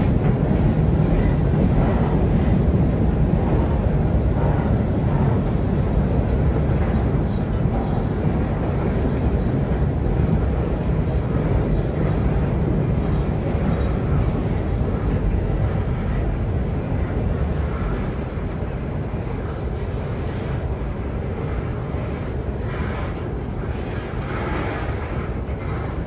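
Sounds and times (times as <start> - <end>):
freight train rumbling over trestle: 0.0 - 26.0.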